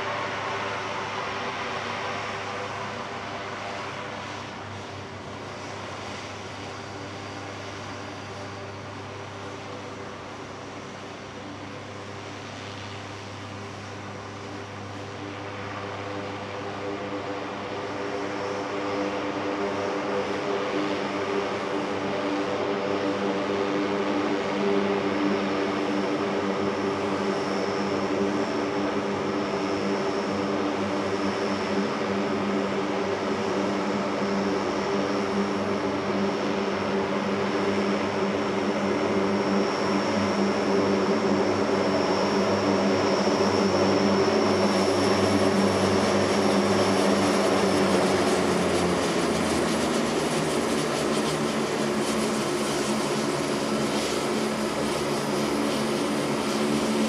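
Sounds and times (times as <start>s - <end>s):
turboprop engines and propellers: 0.0s - 57.0s.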